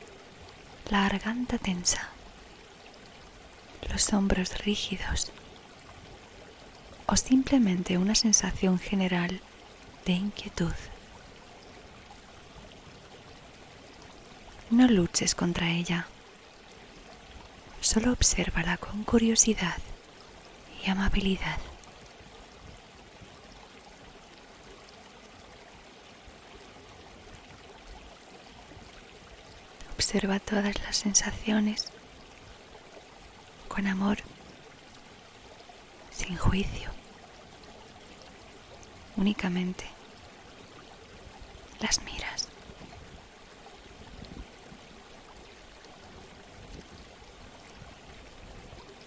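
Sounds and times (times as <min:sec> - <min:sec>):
gently running water: 0:00.0 - 0:49.0.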